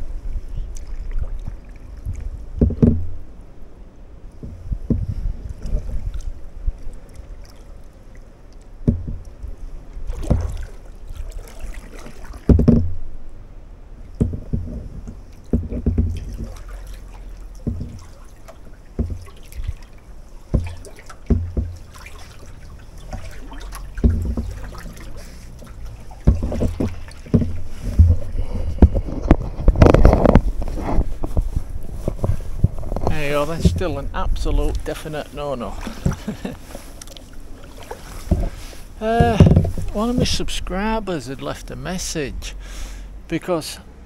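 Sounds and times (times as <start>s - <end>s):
paddle splashing in water: 0.0s - 3.4s, 4.4s - 13.2s, 14.0s - 43.1s.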